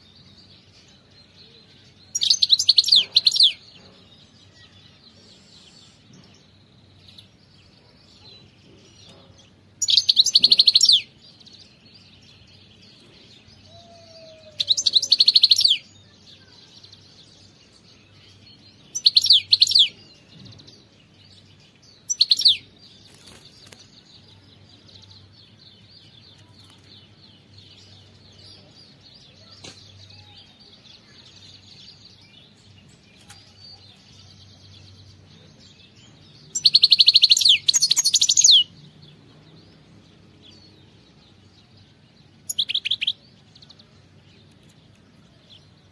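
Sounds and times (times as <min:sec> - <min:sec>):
goldfinch trilling song: 0:00.0 - 0:07.4, 0:09.8 - 0:44.5
faint bird twittering: 0:00.0 - 0:45.9.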